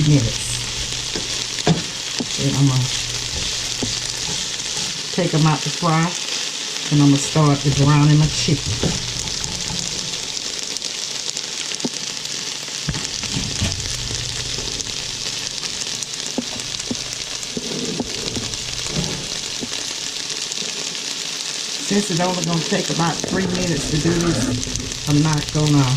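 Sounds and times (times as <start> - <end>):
food sizzling in a frying pan: 0.0 - 25.9.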